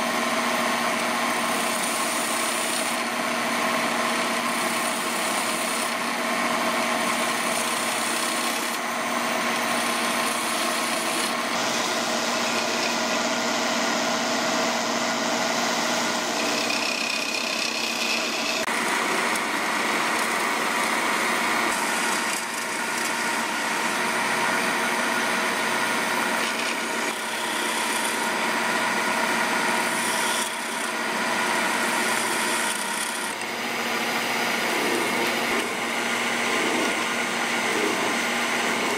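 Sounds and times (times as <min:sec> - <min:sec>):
gouge scraping spinning wood: 0:00.0 - 0:38.9
lathe motor hum: 0:00.0 - 0:38.9.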